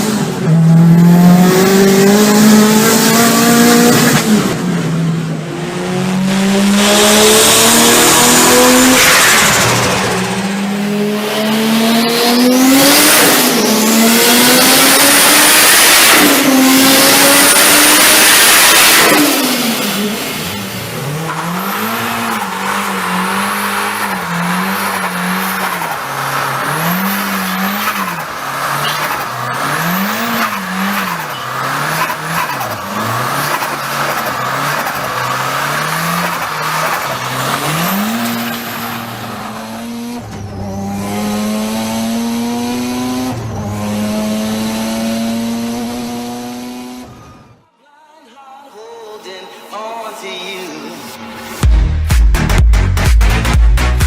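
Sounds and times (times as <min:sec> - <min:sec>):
turbocharged car engine revving: 0:00.0 - 0:47.6.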